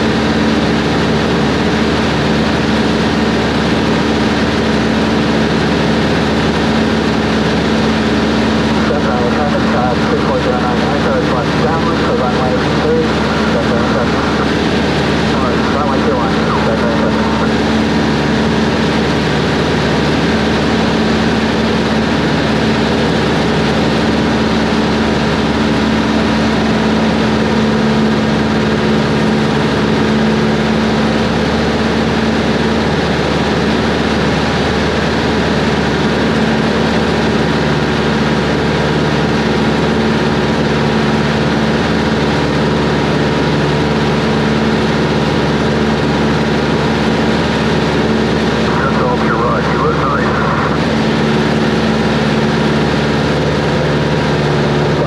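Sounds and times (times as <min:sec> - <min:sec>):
light plane engine droning: 0:00.0 - 0:55.0.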